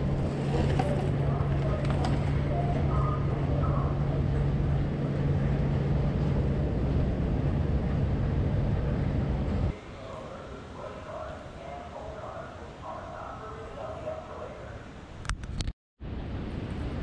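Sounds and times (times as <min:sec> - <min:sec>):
escalator humming: 0:00.0 - 0:14.9.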